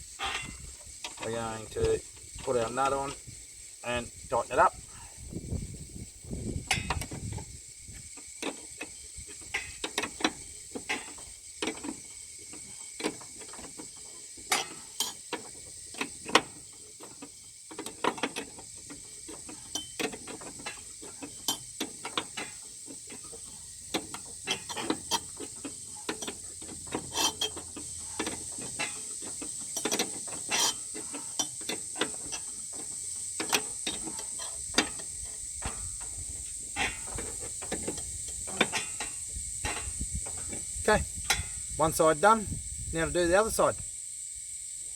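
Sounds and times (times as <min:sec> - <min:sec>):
steady high-pitched hiss: 0:00.0 - 0:44.9.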